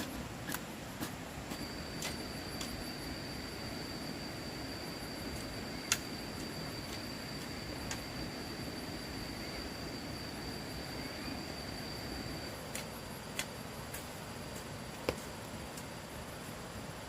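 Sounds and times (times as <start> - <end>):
thin high steady tone: 0.0 - 16.9
background hiss: 0.0 - 17.0.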